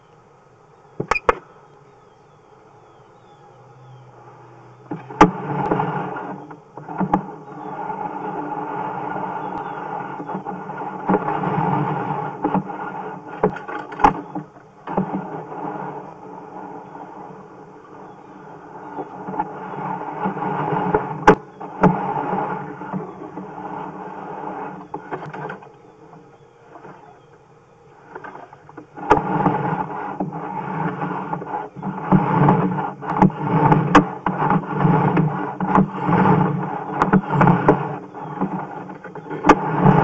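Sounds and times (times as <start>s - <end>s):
mechanical hum: 0.0s - 40.0s
camera scraping in pipe: 4.9s - 27.4s, 28.0s - 40.0s.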